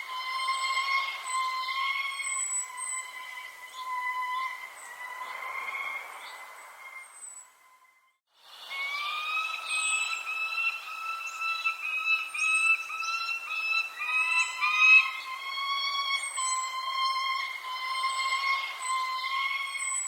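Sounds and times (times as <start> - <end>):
wavering whistle-like bird calls: 0.0 - 20.0.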